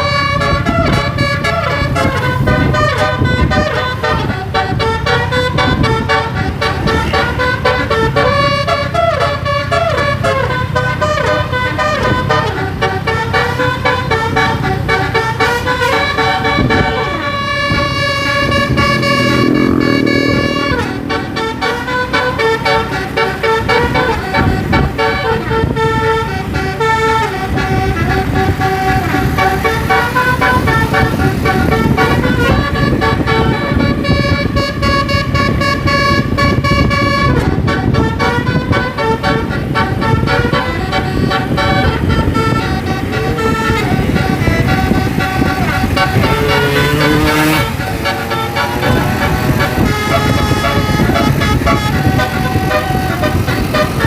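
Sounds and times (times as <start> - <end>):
bus engine running: 0.0 - 54.0
bus horn playing a melody: 0.0 - 54.0.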